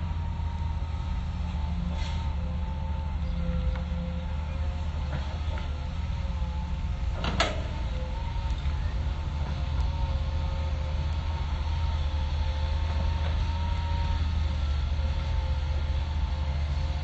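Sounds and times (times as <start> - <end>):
excavator diesel engine rumble: 0.0 - 17.0.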